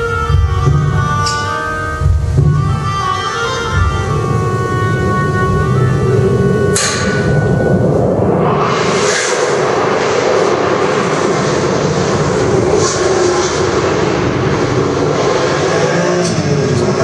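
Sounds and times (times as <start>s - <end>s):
engine roaring: 0.0s - 17.0s
high hiss surges: 1.8s - 17.0s.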